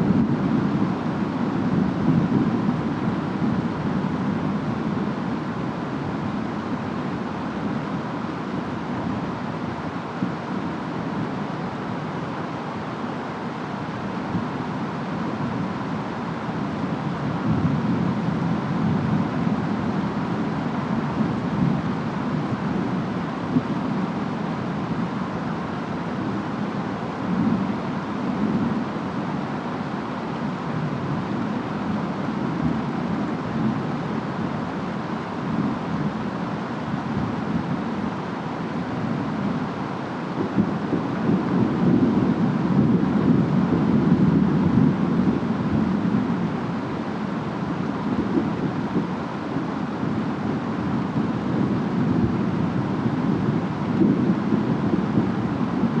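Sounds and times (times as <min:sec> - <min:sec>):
low wind rumble: 0:00.0 - 0:56.0.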